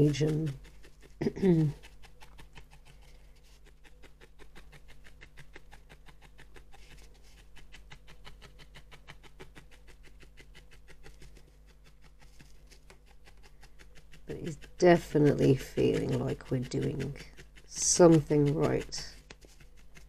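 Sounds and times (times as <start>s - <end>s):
felting needle punching foam: 0.0s - 20.0s.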